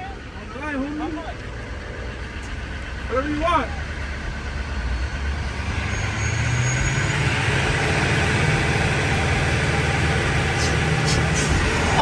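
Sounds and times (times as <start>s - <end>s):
road traffic noise: 0.0s - 12.0s
vehicle engine humming: 0.0s - 12.0s.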